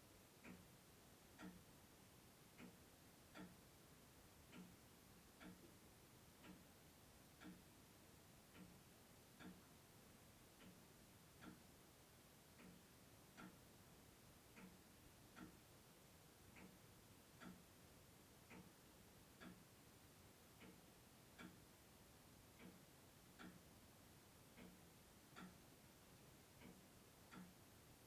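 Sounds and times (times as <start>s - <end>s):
clock ticking: 0.3s - 28.0s.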